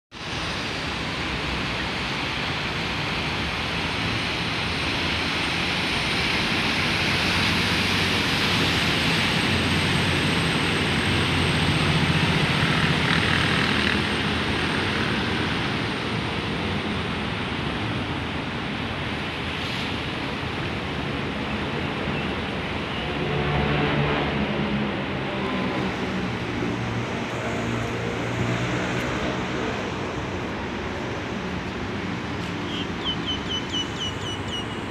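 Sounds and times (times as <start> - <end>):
boat wake rushing on water: 0.1 - 34.9
boat diesel engine drone: 0.2 - 34.9.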